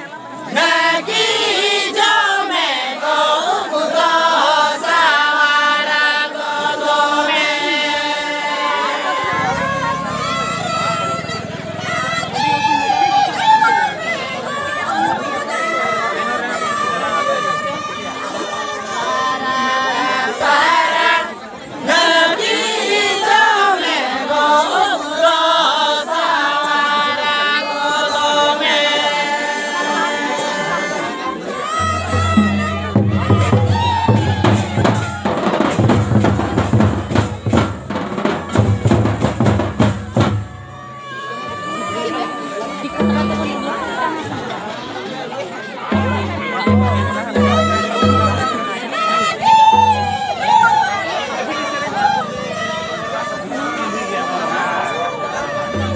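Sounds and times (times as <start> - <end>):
group singing folk song: 0.0 - 55.9.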